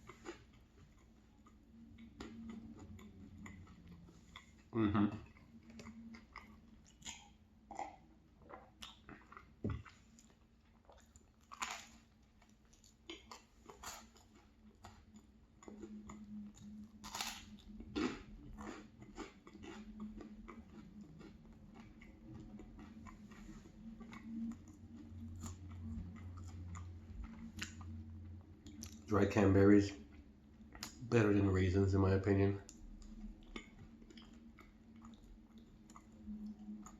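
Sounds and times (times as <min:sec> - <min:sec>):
chewing crunchy bread: 0:00.0 - 0:31.4, 0:32.6 - 0:36.9.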